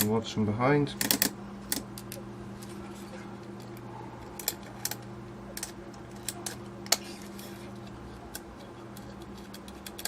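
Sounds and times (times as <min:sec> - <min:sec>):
steady low hum: 0:00.0 - 0:10.0
metal parts clicking: 0:01.0 - 0:02.7, 0:03.5 - 0:10.0.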